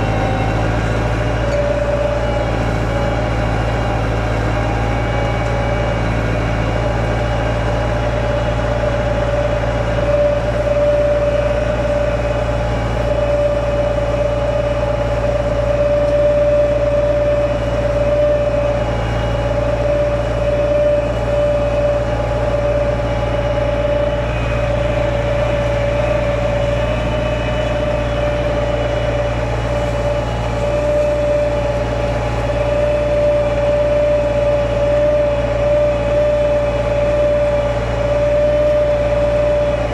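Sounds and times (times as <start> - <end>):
steady whine: 0.0 - 39.9
tractor engine under load: 0.0 - 39.9.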